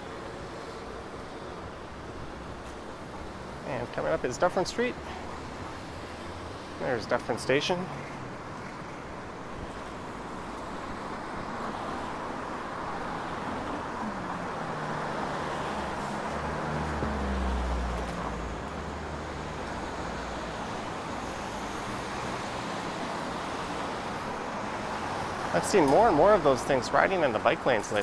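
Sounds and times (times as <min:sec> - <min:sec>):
rush of passing vehicles: 0:00.0 - 0:28.0.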